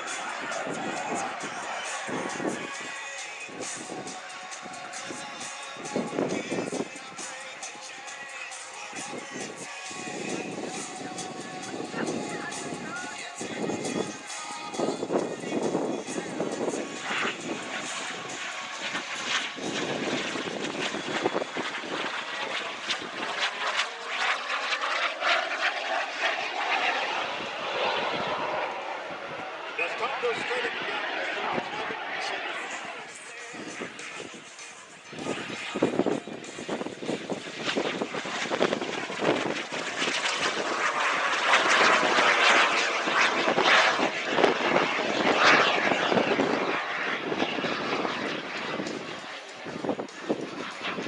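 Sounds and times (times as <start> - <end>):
jet engine rushing with whine: 0.0 - 51.0.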